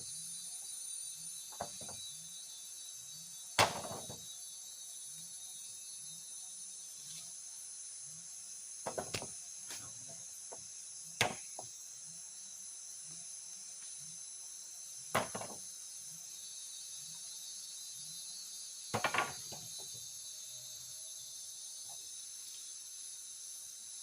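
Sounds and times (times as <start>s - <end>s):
forest insect chorus: 0.0s - 24.0s.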